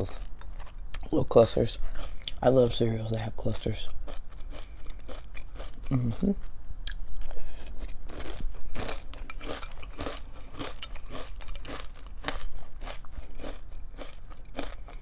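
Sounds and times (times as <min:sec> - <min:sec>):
person chewing crunchy cereal: 0:00.0 - 0:01.1, 0:01.7 - 0:02.8, 0:03.4 - 0:15.0.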